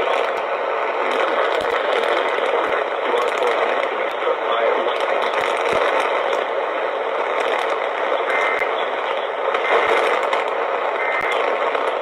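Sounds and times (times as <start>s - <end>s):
radio static hiss: 0.0s - 12.0s
static crackles and clicks: 0.0s - 12.0s.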